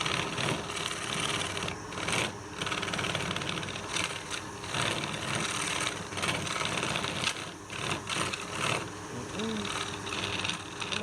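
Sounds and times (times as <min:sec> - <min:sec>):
wood lathe running: 0:00.0 - 0:11.0.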